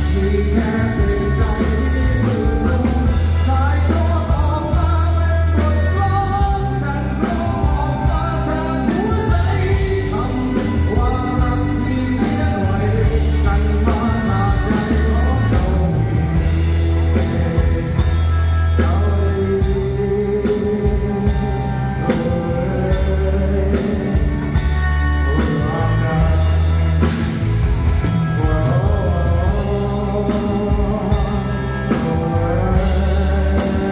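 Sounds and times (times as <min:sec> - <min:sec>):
heavy bass: 0:00.0 - 0:33.9
live band playing: 0:00.0 - 0:33.9
person singing: 0:00.0 - 0:33.9
steady drum beat: 0:00.0 - 0:33.9.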